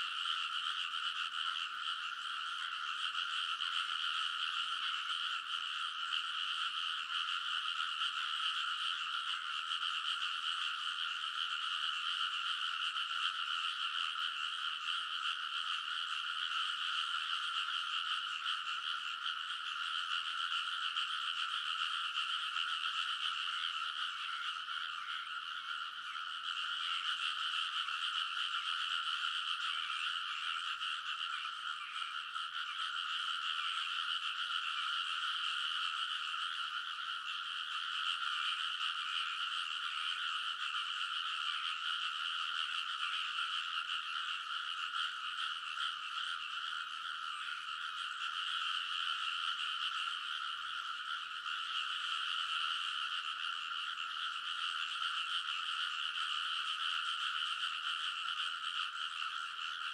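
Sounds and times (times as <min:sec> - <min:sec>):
chorus of frogs croaking: 0:00.0 - 0:59.9.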